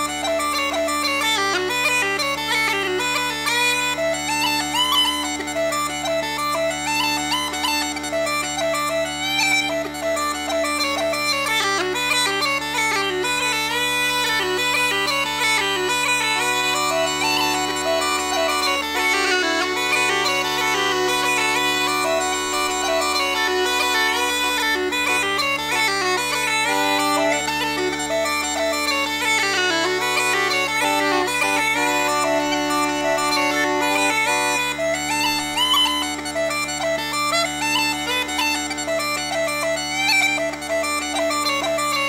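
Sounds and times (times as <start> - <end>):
uilleann pipes playing a reel: 0.0 - 42.0.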